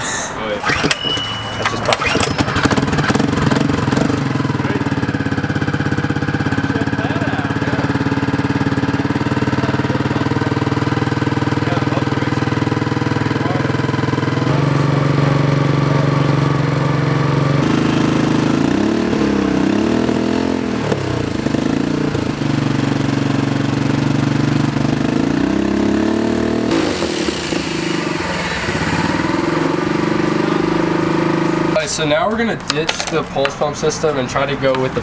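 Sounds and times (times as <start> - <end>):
engine revving under load: 0.0 - 32.4.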